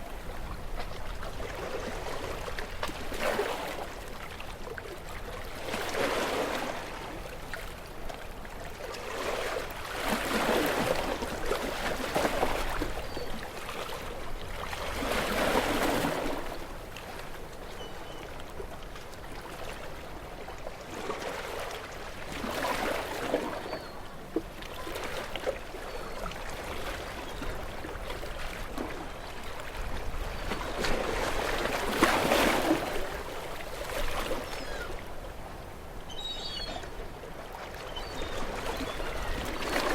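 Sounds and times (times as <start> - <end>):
low rumble of surf: 0.0 - 39.9.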